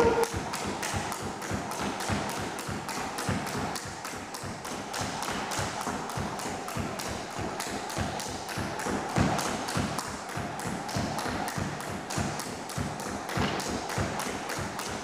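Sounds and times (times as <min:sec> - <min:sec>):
skipping rope slapping wooden floor: 0:00.0 - 0:15.0.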